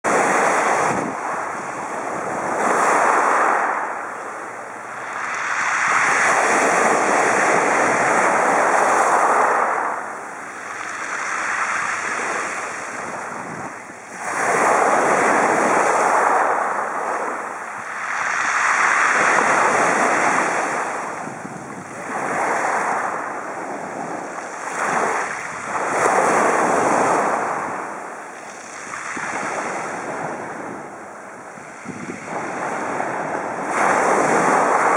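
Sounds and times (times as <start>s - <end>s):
waves breaking on pebble beach: 0.1s - 4.0s, 5.0s - 34.9s.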